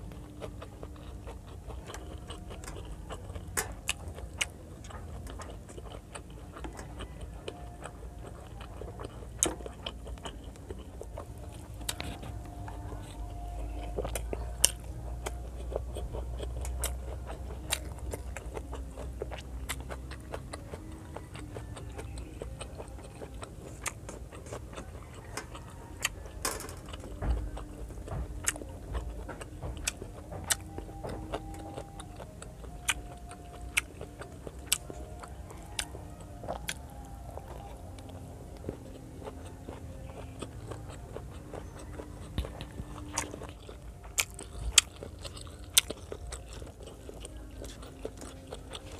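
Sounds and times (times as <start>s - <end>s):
person chewing and biting: 0.0s - 48.9s.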